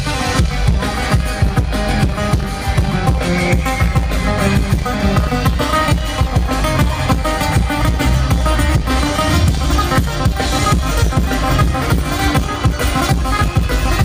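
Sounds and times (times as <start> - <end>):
drum kit beat: 0.0 - 14.0
guitar playing: 0.0 - 14.0.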